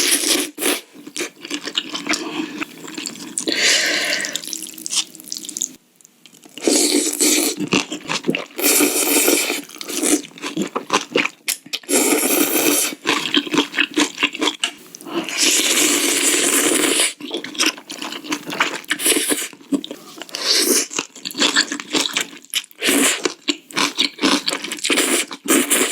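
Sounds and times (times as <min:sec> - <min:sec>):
chewing with crunchy bites: 0:00.0 - 0:03.5, 0:04.4 - 0:25.9
slurping noodle soup: 0:00.0 - 0:05.4, 0:06.6 - 0:22.2, 0:22.8 - 0:25.9.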